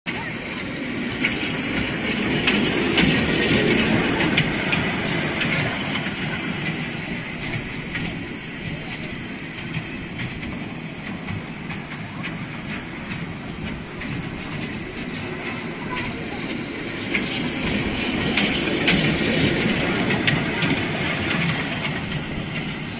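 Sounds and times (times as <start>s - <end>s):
ride-on train running on rails: 0.0s - 22.9s
wheels clicking over rail joints: 0.1s - 22.9s.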